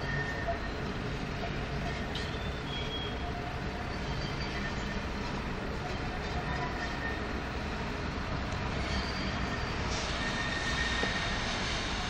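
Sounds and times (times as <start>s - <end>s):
tram rumble and hum: 0.0s - 12.0s.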